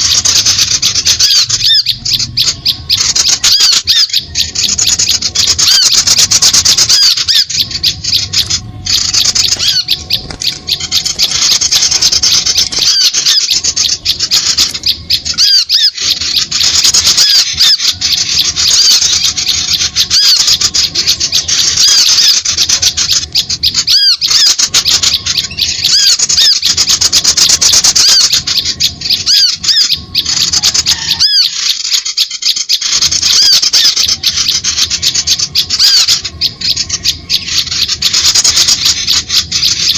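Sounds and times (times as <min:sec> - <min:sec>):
small birds chattering and chirping: 0:00.0 - 0:39.9.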